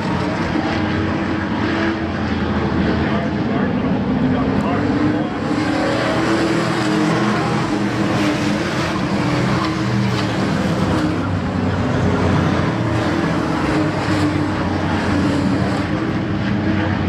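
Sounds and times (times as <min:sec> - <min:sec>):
race truck engines droning: 0:00.0 - 0:17.0.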